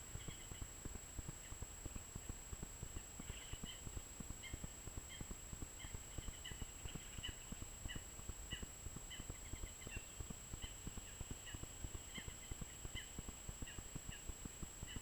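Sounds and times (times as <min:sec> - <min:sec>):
small bird chirping: 0:00.0 - 0:00.7, 0:01.3 - 0:15.0.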